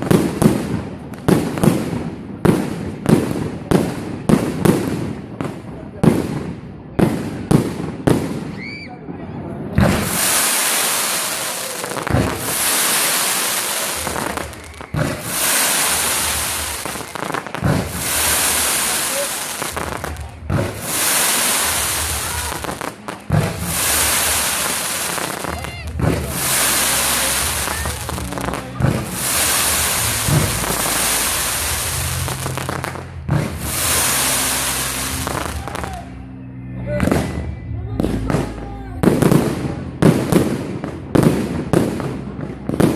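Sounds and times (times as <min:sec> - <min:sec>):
fireworks bursting: 0:00.0 - 0:08.6, 0:09.6 - 0:36.2, 0:37.0 - 0:42.9
fireworks hissing and crackling: 0:00.0 - 0:08.6, 0:09.7 - 0:36.1, 0:38.1 - 0:42.9.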